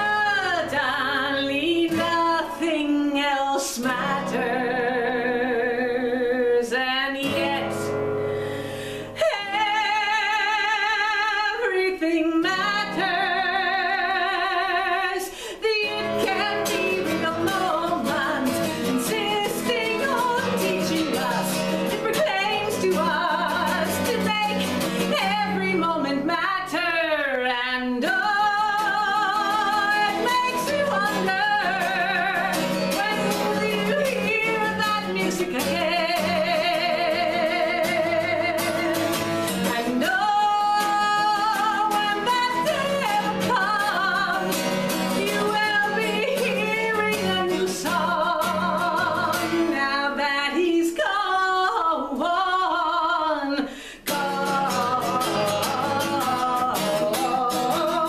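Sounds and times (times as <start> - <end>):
strummed acoustic guitar: 0.0 - 52.9, 53.6 - 58.0
person singing with vibrato: 0.0 - 58.0.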